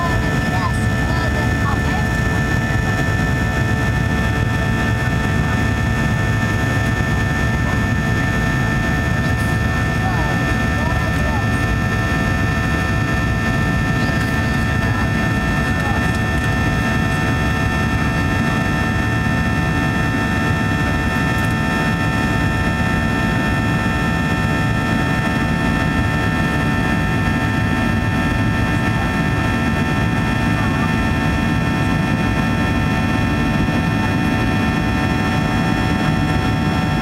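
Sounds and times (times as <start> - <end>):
aircraft cabin rumble: 0.0 - 37.0
jet engine whining: 0.0 - 37.0.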